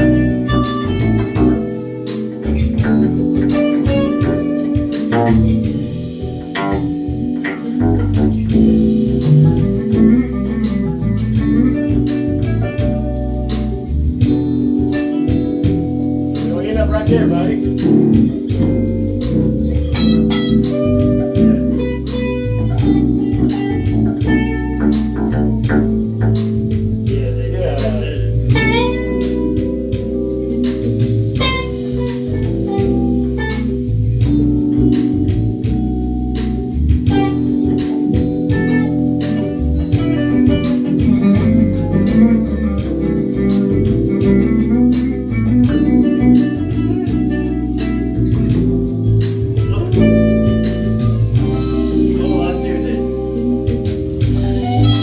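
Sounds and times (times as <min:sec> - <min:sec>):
electric bass low notes: 0:00.0 - 0:55.0
higher plucked string notes: 0:00.0 - 0:55.0
sharp percussive hits: 0:00.0 - 0:55.0
sustained organ chords: 0:00.0 - 0:55.0.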